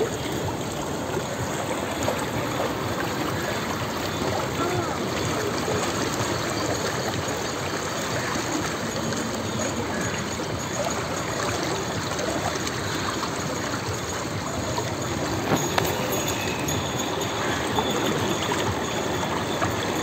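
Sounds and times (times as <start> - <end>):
river water streaming: 0.0 - 20.0.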